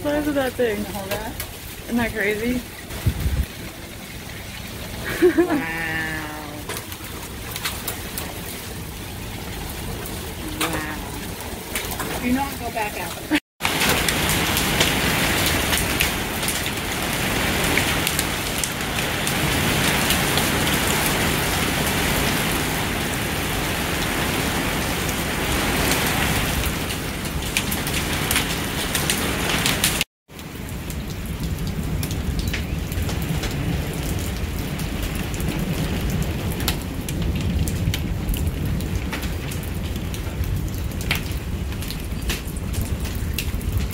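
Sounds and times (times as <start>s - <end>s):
hailstones ticking and knocking: 0.0s - 43.9s
heavy rain rushing: 0.0s - 43.9s.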